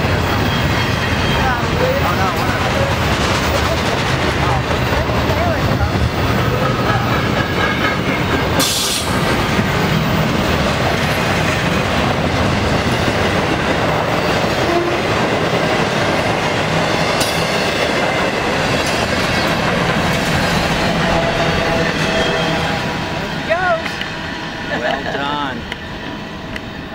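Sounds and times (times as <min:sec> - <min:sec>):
train wheels rolling on rails: 0:00.0 - 0:26.9.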